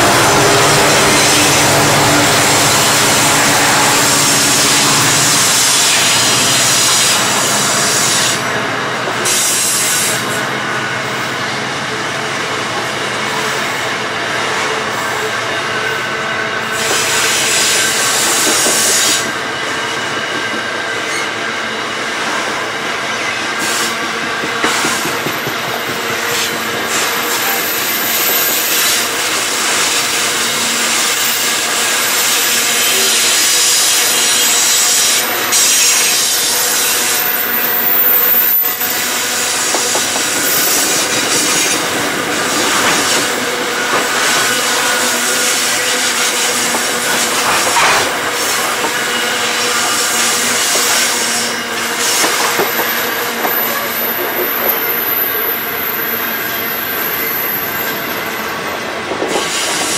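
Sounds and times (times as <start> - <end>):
high wheel squeal: 0.0 - 8.6, 15.1 - 59.9
train wheels rumbling on rails: 0.0 - 59.9.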